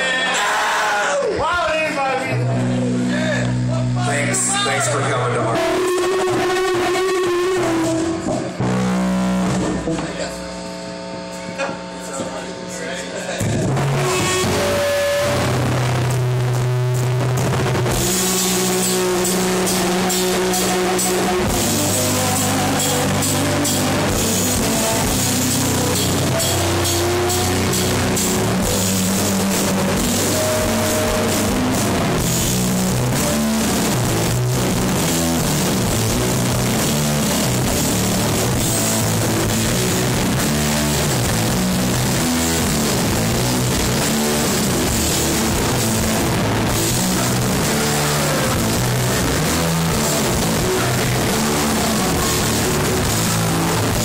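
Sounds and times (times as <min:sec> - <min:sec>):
heavy metal band playing: 0:00.0 - 0:11.1, 0:13.2 - 0:54.0.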